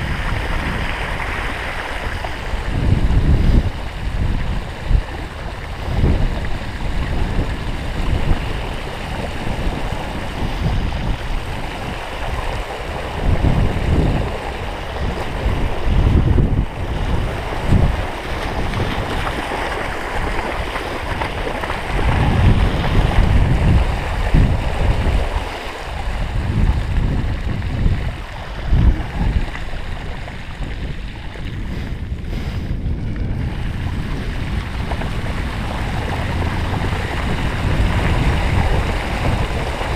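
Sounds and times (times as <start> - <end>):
water splashing: 0.0 - 39.9
wind rumble on microphone: 0.0 - 39.9.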